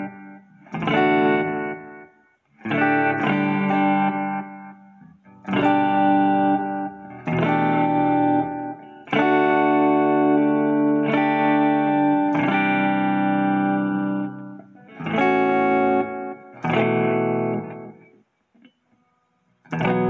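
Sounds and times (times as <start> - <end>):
electric guitar chords ringing: 0.0 - 18.2, 19.6 - 20.0.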